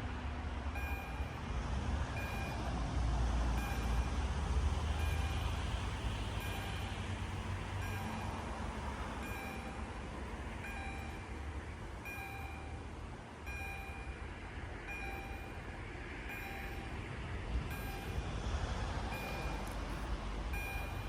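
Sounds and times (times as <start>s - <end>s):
steady low rumble: 0.0s - 21.0s
level-crossing warning bell: 0.7s - 21.0s.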